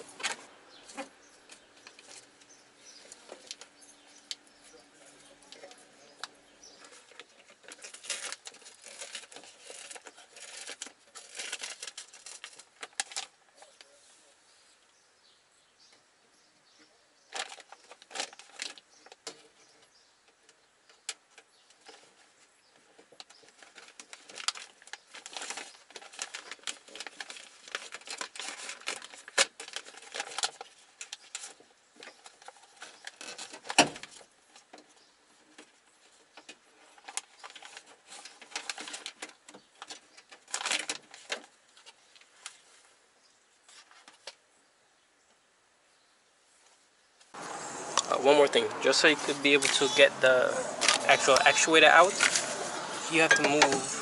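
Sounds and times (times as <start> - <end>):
plastic and metal parts rustling: 0.0 - 14.0, 17.3 - 43.0, 48.2 - 54.0.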